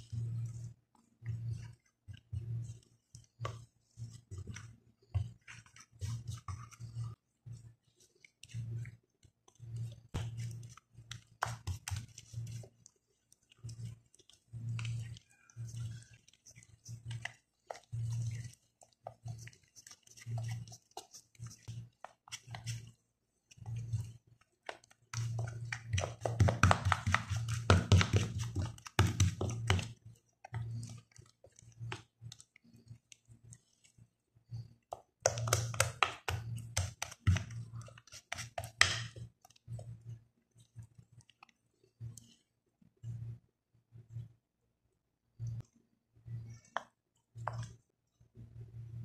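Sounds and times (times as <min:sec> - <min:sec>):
wooden spoon mixing wet paste: 0:00.0 - 0:43.4, 0:45.4 - 0:49.0.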